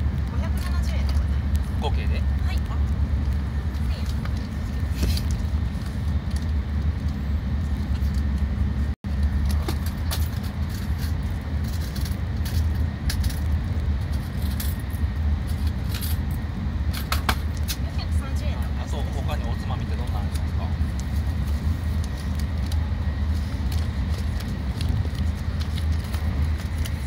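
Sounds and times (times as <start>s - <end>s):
train rumble inside cabin: 0.0s - 27.0s.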